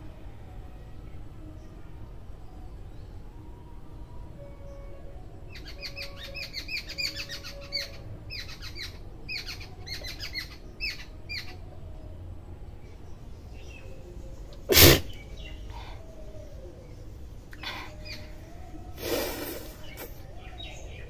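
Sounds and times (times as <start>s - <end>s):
bird chirping: 4.0s - 21.0s.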